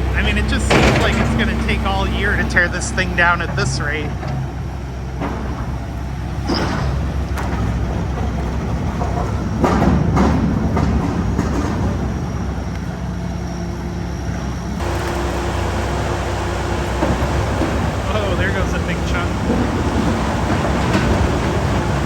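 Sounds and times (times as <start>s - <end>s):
heavy machinery engine rumble: 0.0s - 22.0s.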